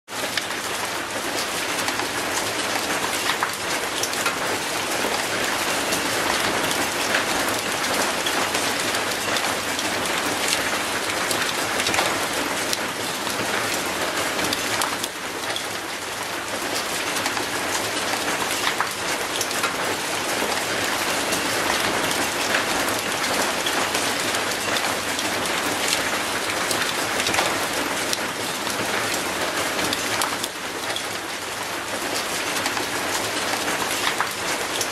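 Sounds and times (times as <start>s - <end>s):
rain hissing on concrete: 0.1s - 34.9s
raindrops ticking on metal gate: 1.3s - 34.9s.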